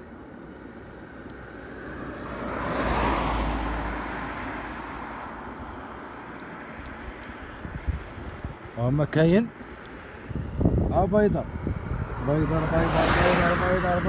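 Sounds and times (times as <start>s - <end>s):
van passing: 0.8s - 14.0s.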